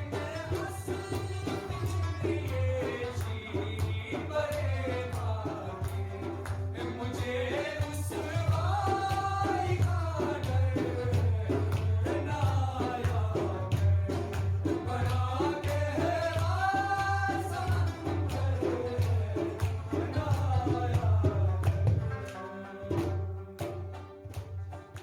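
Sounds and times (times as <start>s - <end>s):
rhythmic drum beat: 0.0s - 25.0s.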